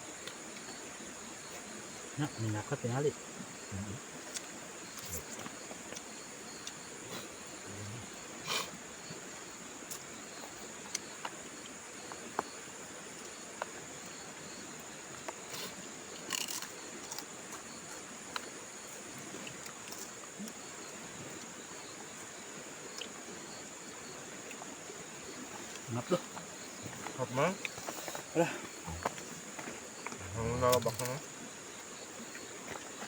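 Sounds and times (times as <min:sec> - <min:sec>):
faint hiss: 0:00.0 - 0:33.0
insect chorus drone: 0:00.0 - 0:33.0.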